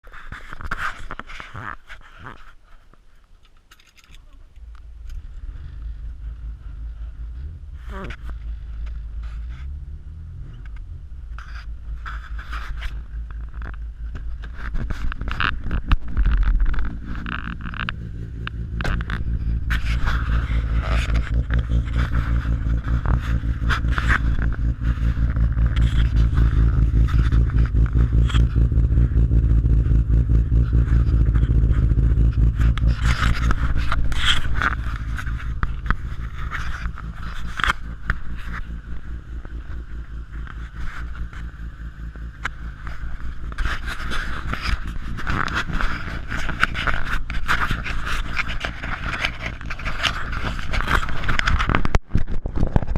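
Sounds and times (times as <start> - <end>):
car engine exhaust drone: 0.0 - 52.9.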